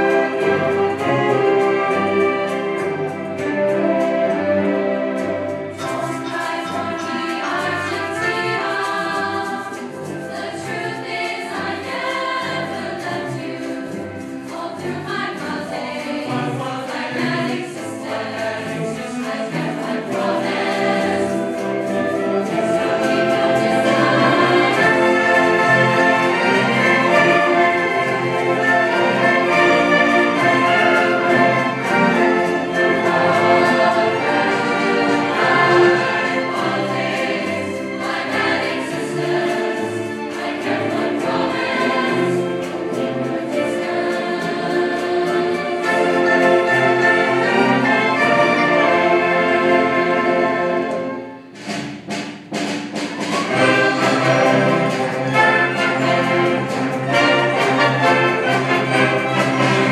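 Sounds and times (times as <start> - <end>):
choir singing: 0.0 - 51.5, 53.0 - 59.9
string orchestra playing: 0.0 - 59.9.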